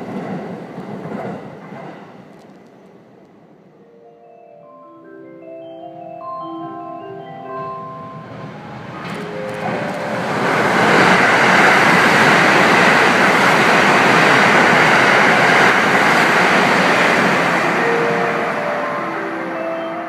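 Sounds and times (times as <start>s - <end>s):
train rushing past: 0.0s - 4.1s, 5.7s - 20.0s.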